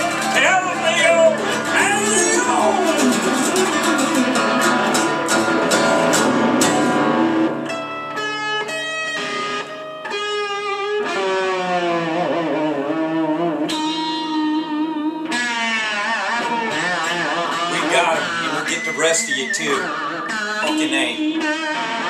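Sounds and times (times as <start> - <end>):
instrumental guitar playing: 0.0 - 22.0.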